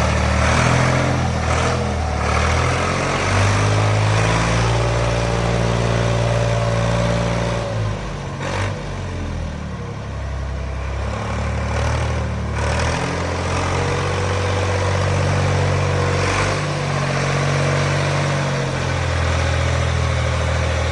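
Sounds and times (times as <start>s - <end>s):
tractor engine running: 0.0s - 10.6s, 11.4s - 20.9s.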